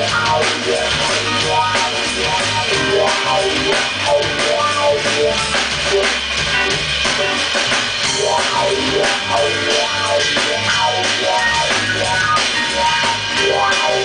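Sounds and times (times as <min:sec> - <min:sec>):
drum kit playing a busy beat: 0:00.0 - 0:14.0
electric bass low notes: 0:00.0 - 0:14.0
electric keyboard playing: 0:00.0 - 0:14.0.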